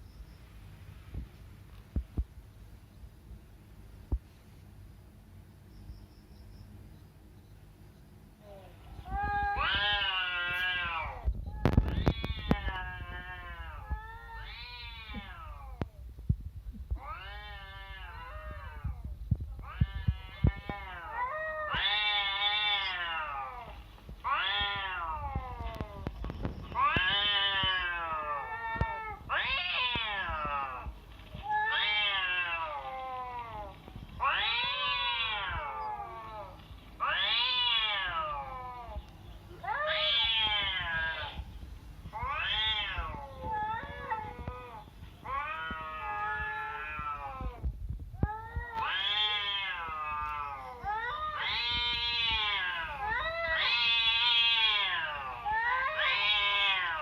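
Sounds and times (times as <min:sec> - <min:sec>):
cat meowing: 0:08.5 - 0:15.9, 0:16.9 - 0:26.1, 0:26.7 - 0:41.4, 0:42.1 - 0:57.0.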